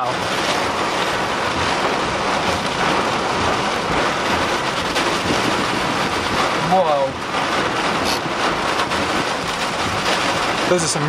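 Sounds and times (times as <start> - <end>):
heavy rain on car: 0.0 - 11.0.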